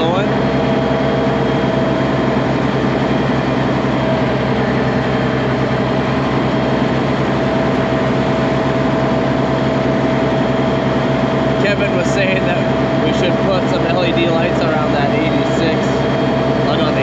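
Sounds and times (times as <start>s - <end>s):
diesel engine running: 0.0s - 17.0s
high whine: 0.0s - 17.0s.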